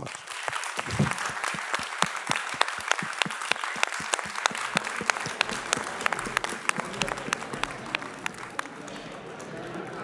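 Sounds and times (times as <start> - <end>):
audience applauding: 0.0 - 10.0
sharp close claps: 0.0 - 10.0.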